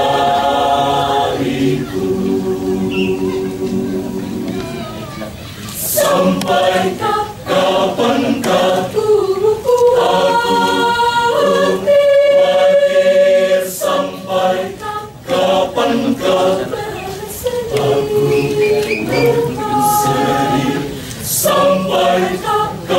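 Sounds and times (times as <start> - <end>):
church choir singing: 0.0 - 22.9.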